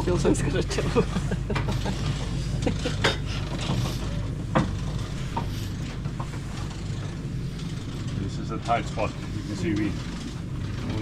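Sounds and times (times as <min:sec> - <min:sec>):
steady low hum: 0:00.0 - 0:11.0
knocks clicks and scraping: 0:01.4 - 0:11.0.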